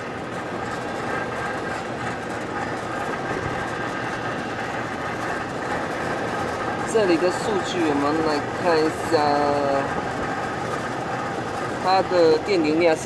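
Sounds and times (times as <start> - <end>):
air conditioner unit running: 0.0 - 13.0.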